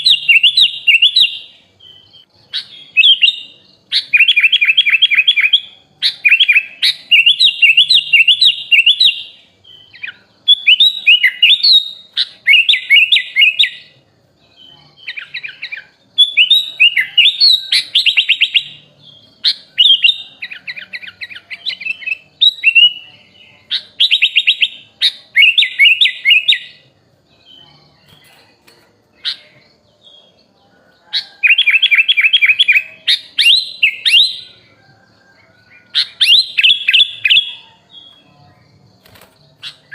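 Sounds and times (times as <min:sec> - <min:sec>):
bulbul singing chirping phrases: 0:00.0 - 0:39.9.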